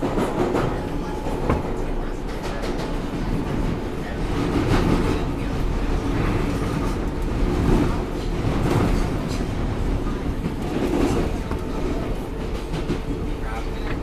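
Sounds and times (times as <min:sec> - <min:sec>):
subway car running noise: 0:00.0 - 0:14.0.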